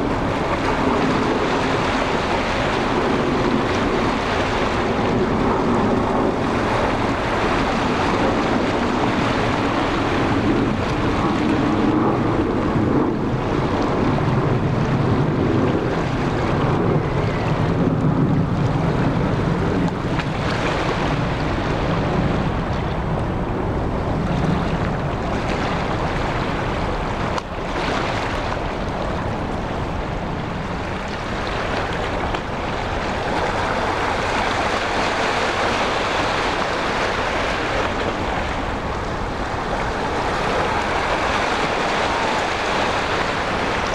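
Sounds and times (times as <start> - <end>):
wind on microphone: 0.0 - 43.9.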